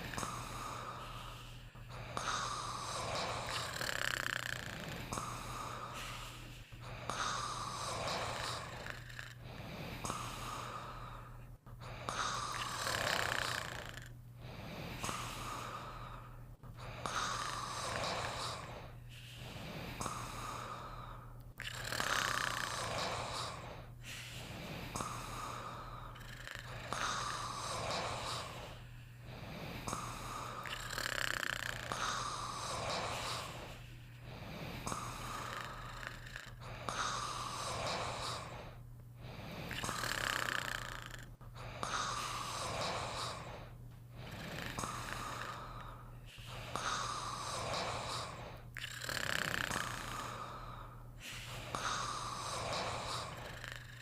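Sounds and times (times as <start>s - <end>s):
person snoring: 0.0s - 54.0s
steady low hum: 0.0s - 54.0s.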